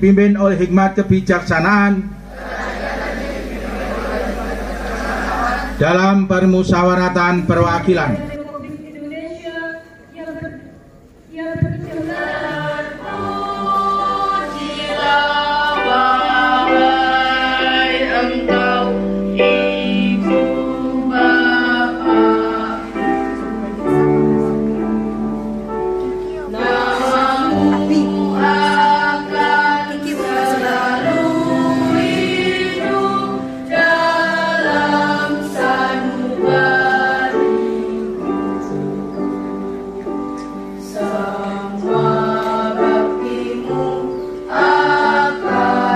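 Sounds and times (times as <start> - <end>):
choir singing: 2.2 - 5.9, 11.4 - 40.0, 40.7 - 45.9.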